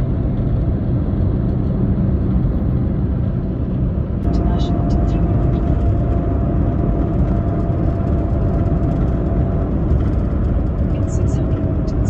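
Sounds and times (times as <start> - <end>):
car tyre and engine rumble: 0.0 - 12.0.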